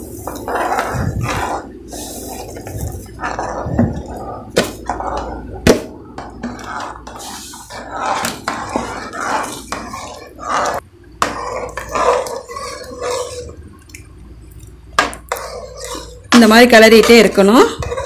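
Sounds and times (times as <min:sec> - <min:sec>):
ladle scraping and knocking pot: 0:00.0 - 0:14.0, 0:14.6 - 0:18.0.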